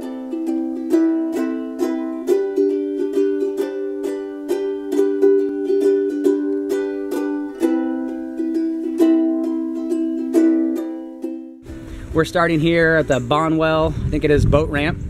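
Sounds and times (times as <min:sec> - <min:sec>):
plucked string music: 0:00.0 - 0:12.8.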